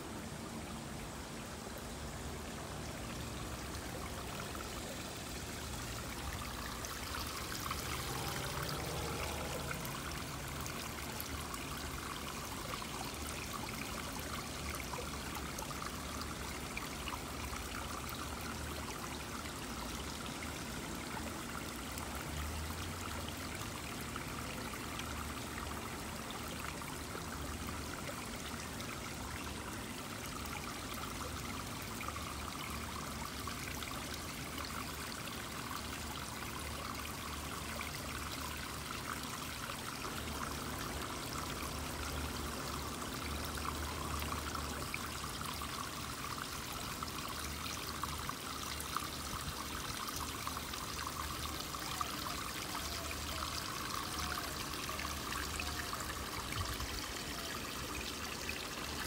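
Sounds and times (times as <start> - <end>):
stream water trickling: 0.0 - 59.0.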